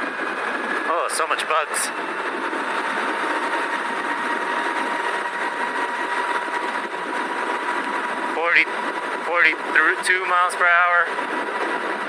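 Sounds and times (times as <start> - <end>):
wind rush: 0.0 - 12.0.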